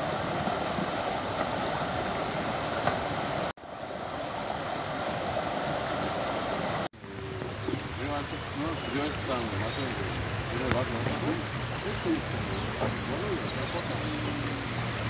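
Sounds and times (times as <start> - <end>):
water rushing over stones: 0.0 - 15.0.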